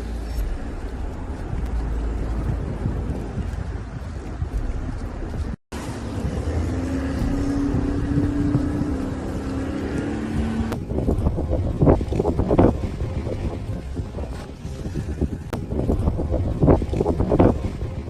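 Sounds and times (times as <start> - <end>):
street noise rumble: 0.0 - 18.0
vehicle engine humming: 0.0 - 18.0.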